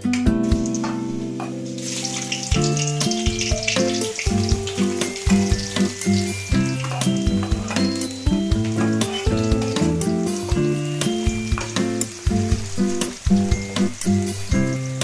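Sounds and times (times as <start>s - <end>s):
acoustic guitar music: 0.0s - 15.0s
food sizzling in hot oil: 0.0s - 15.0s.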